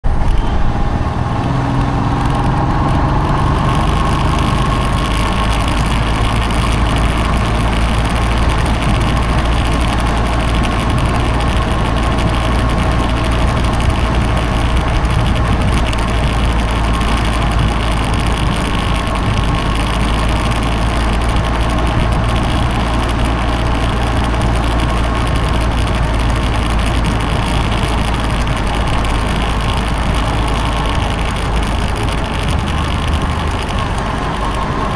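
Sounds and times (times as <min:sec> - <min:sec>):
motorcycle engine running: 0:00.0 - 0:34.9
road noise: 0:00.0 - 0:34.9.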